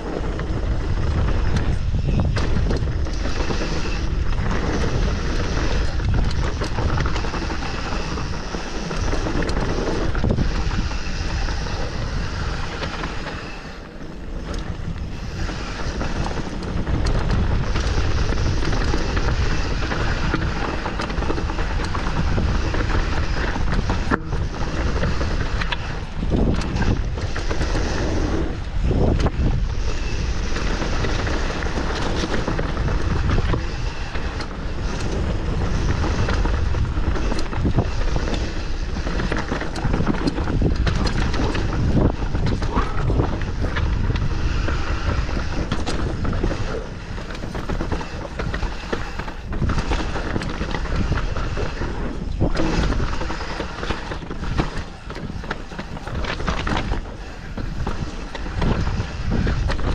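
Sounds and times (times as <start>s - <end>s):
bike rattling and knocking: 0.0s - 59.9s
wind buffeting microphone: 0.0s - 59.9s.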